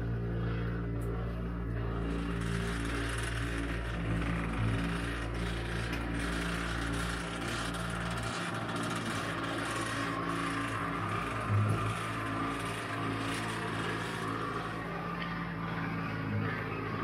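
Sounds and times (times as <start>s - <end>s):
electric motor hum: 0.0s - 17.0s
gear rubbing scrape: 1.9s - 17.0s.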